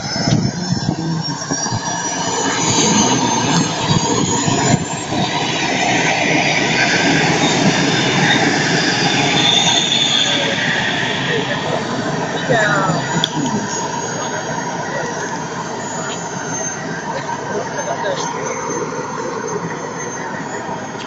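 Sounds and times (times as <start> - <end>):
model jet turbine whining: 0.0 - 21.0.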